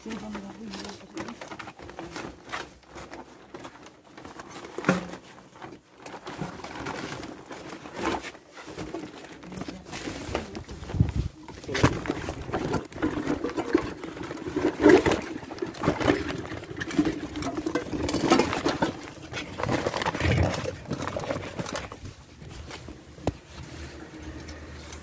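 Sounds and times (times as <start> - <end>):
sack rustling against microphone: 0.7 - 24.9.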